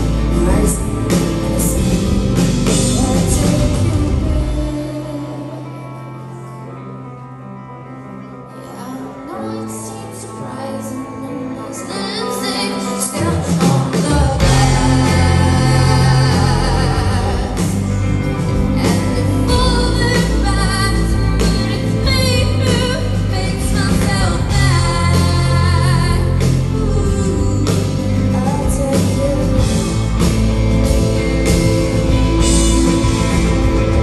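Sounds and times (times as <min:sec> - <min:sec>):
woman singing lead: 0:00.0 - 0:07.1, 0:08.3 - 0:30.6
live rock band playing: 0:00.0 - 0:34.0.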